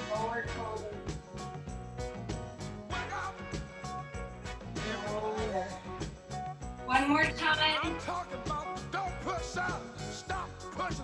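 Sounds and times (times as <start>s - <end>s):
music with steady beat and melody: 0.0s - 11.0s.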